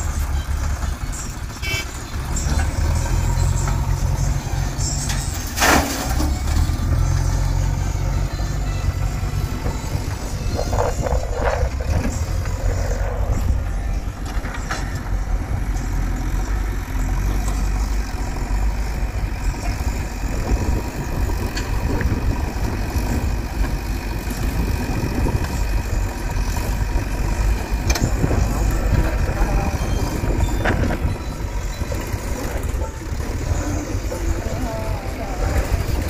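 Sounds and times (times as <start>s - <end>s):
diesel engines running: 0.0s - 36.0s.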